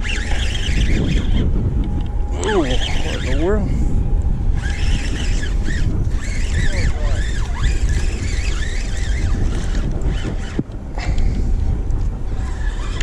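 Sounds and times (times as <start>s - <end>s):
thin high wavering whistles: 0.0s - 10.5s
wind buffeting microphone: 0.0s - 13.0s.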